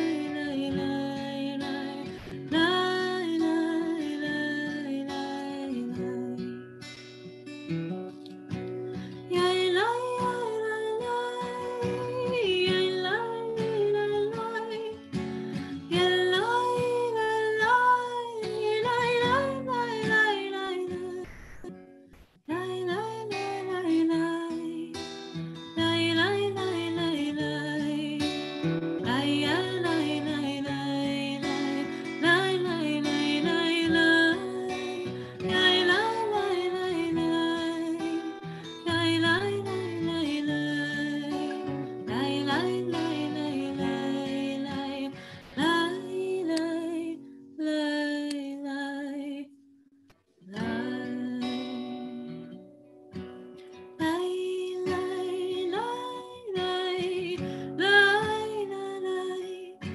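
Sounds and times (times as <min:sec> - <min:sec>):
slow acoustic guitar music: 0:00.0 - 0:48.6, 0:49.4 - 0:59.9.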